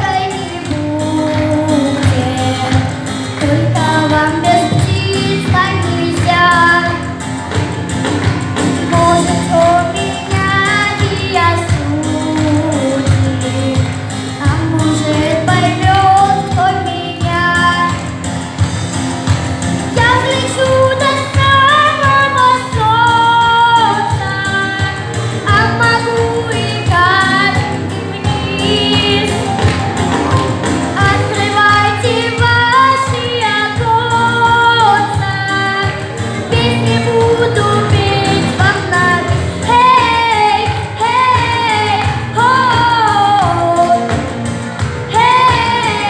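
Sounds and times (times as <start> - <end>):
woman singing: 0.0 - 18.3, 19.9 - 46.0
instrumental accompaniment with beat: 0.0 - 46.0.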